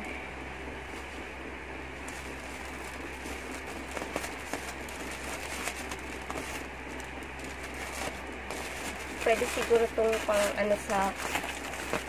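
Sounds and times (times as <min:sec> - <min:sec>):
steady background hum: 0:00.0 - 0:12.0
plastic packing cushion crinkling: 0:02.0 - 0:12.0.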